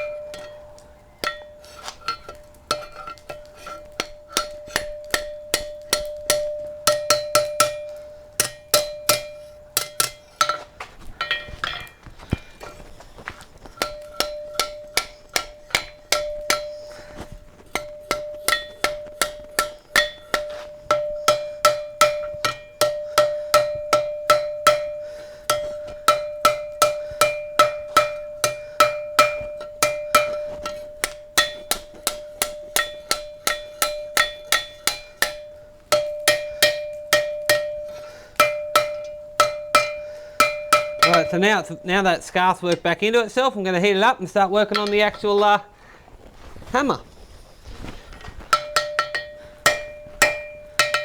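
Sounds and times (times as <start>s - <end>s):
hammer striking steel on anvil: 0.0s - 43.3s, 43.9s - 45.6s, 48.4s - 51.0s.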